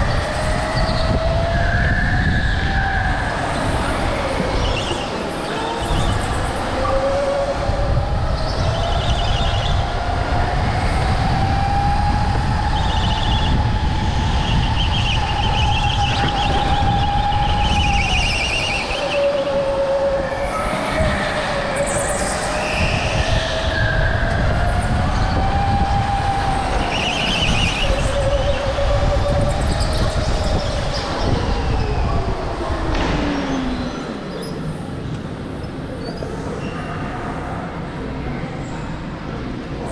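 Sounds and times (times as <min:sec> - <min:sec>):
go-kart motor whine: 0:00.0 - 0:35.7
kart rumbling on concrete: 0:00.0 - 0:37.8.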